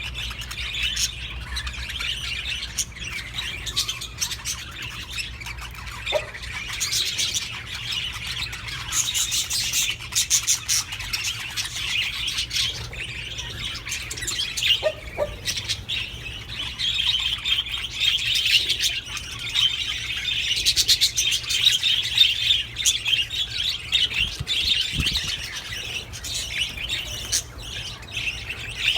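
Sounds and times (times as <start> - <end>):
budgerigars chattering and warbling: 0.0 - 28.9.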